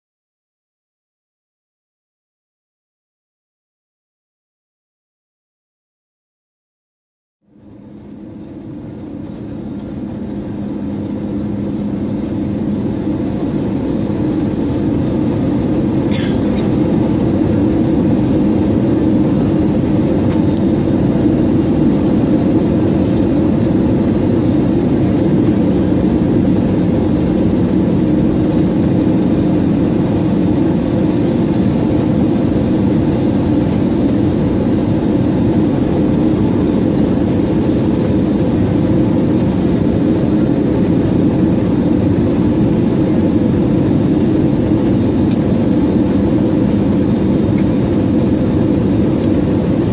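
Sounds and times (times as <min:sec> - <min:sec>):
aircraft cabin engine rush: 0:07.4 - 0:49.9.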